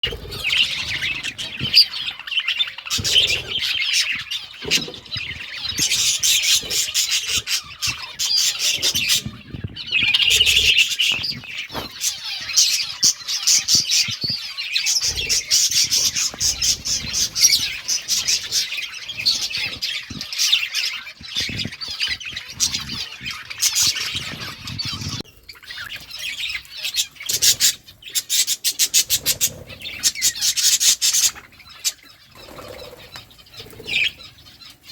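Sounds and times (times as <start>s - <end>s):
budgerigars chirping and chattering: 0.0s - 34.9s.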